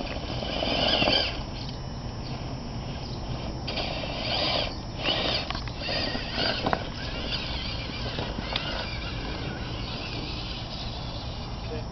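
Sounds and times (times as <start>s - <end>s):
electric motor and gears whining: 0.0s - 11.9s.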